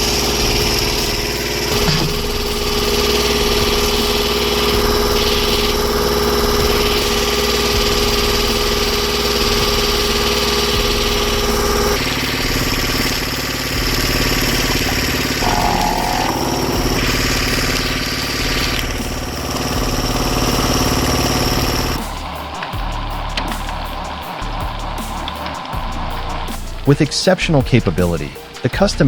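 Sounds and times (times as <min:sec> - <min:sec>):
constant whine: 0:00.0 - 0:27.0
engine running: 0:00.0 - 0:28.7.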